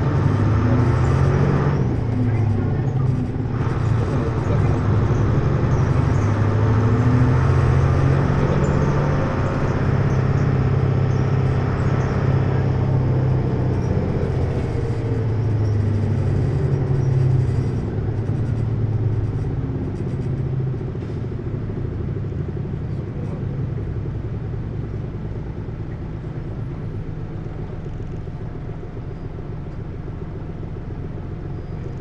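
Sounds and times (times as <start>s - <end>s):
bus diesel engine droning: 0.0s - 32.0s.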